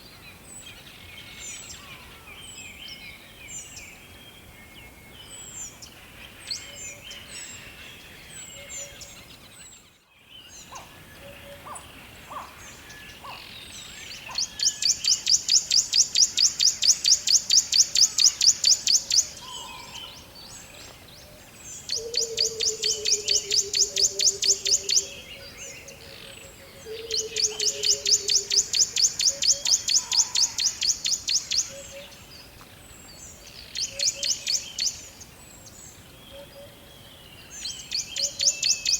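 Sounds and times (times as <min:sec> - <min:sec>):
forest birds chirping: 0:00.0 - 0:38.9.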